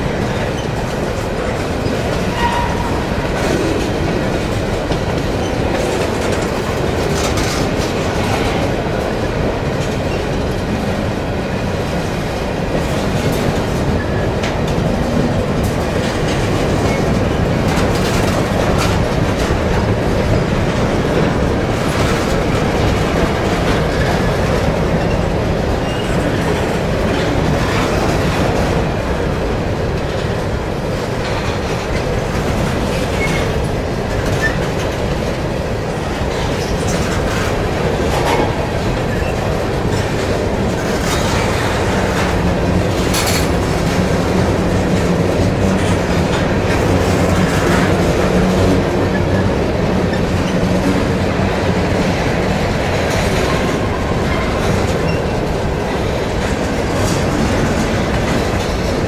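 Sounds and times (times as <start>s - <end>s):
steel wheels rumbling on rail: 0.0s - 59.0s.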